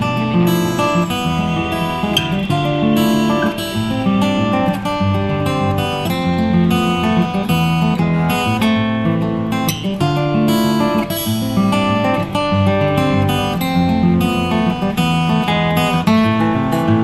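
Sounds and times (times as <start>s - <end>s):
guitar plucking and strumming: 0.0s - 17.0s.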